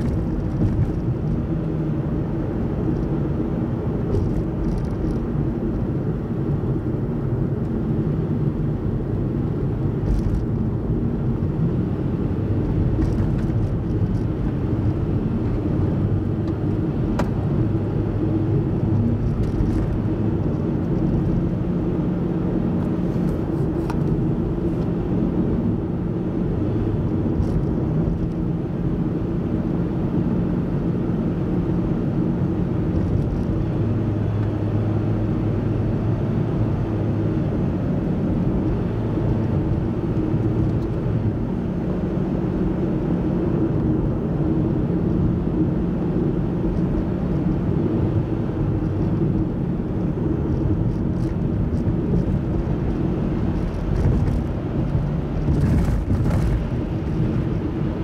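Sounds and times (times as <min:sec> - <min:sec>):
car engine and tyre drone: 0:00.0 - 0:58.0.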